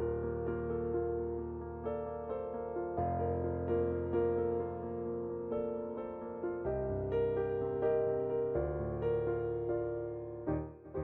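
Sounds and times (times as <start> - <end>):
soft electric piano music: 0.0 - 11.0.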